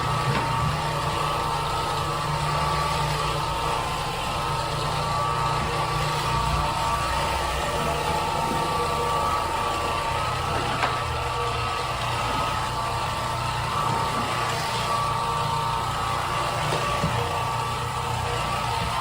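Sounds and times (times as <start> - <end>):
floor cleaning machine motor running: 0.0 - 19.0.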